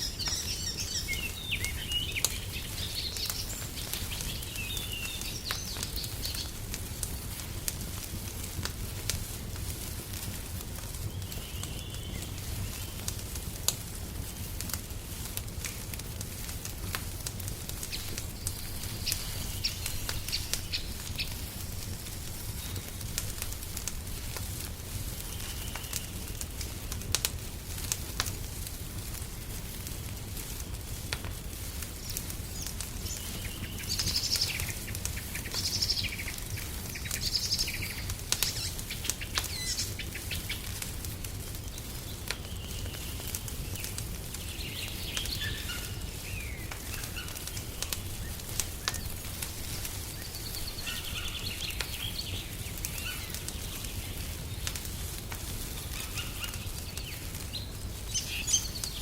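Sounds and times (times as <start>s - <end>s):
songbirds chirping: 0.0s - 8.6s, 9.6s - 15.0s, 15.8s - 26.8s, 29.3s - 59.0s
wood fire crackling: 0.0s - 59.0s.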